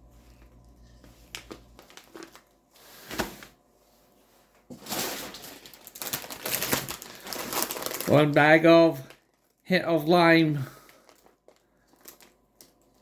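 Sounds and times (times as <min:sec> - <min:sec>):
plastic snack bag crinkling: 0:00.2 - 0:02.6, 0:04.8 - 0:13.0.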